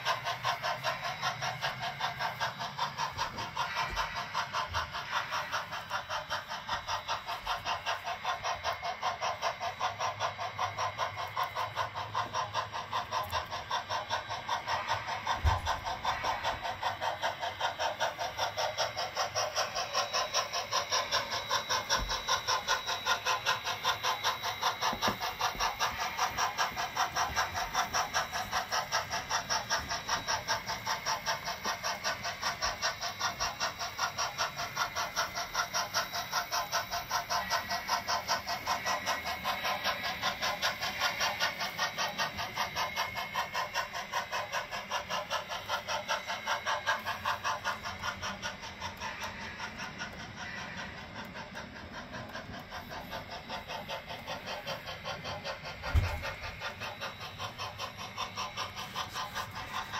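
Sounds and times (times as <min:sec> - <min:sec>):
model steam locomotive chuffing: 0:00.0 - 0:59.9.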